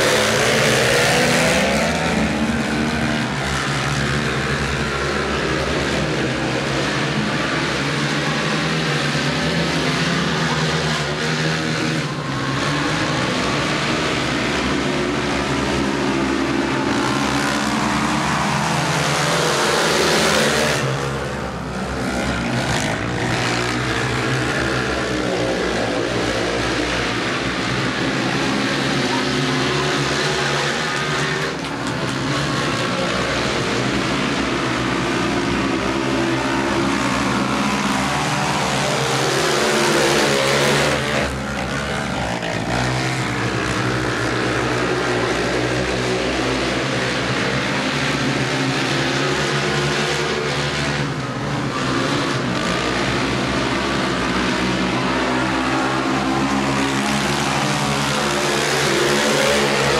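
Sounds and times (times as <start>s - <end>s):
racing quad engines: 0.0s - 59.9s.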